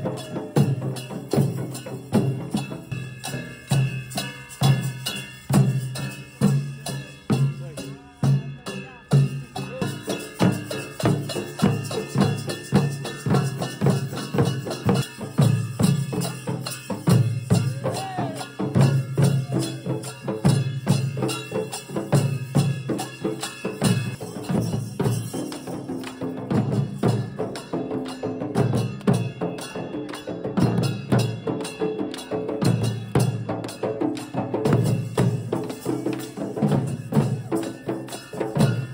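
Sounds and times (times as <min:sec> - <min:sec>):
barrel drums beaten with sticks: 0:00.0 - 0:38.9.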